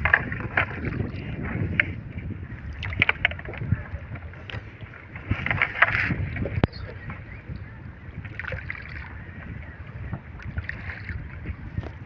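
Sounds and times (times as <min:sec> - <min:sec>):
water against a hull: 0:00.0 - 0:12.0
wind on microphone: 0:00.0 - 0:12.0.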